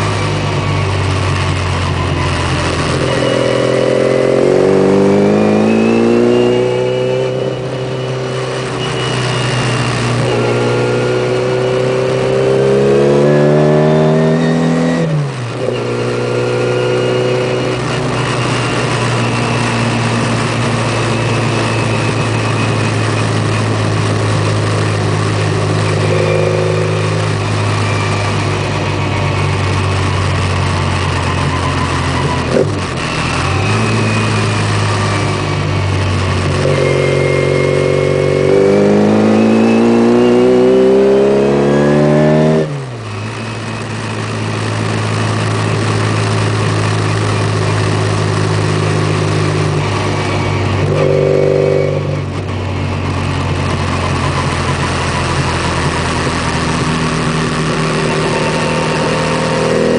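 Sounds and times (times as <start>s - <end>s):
car engine revving hard: 0.0s - 28.9s, 29.5s - 59.9s.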